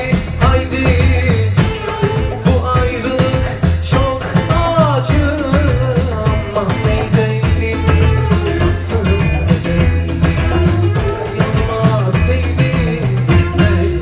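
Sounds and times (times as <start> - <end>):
bass: 0.0 - 14.0
bending melody line: 0.0 - 14.0
drum kit beat: 0.0 - 14.0
person singing: 0.0 - 14.0.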